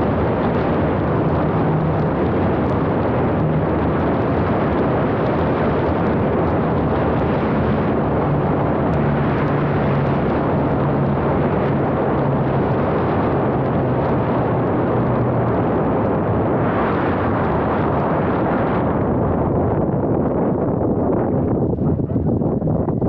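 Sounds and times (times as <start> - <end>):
model plane engines and propellers: 0.0 - 23.0
wind rushing: 0.0 - 23.0.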